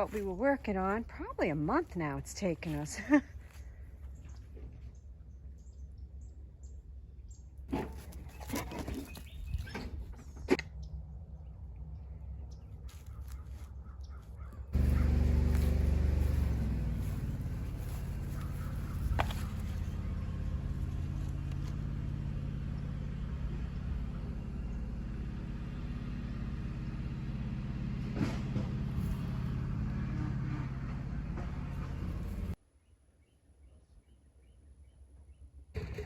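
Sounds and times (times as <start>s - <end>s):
engine humming: 0.0s - 32.6s.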